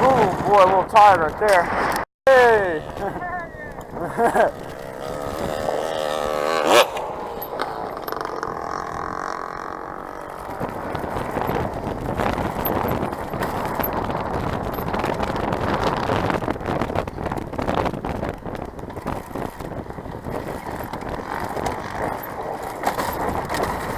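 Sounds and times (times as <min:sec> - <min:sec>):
motorcycle engine revving: 0:02.3 - 0:23.9.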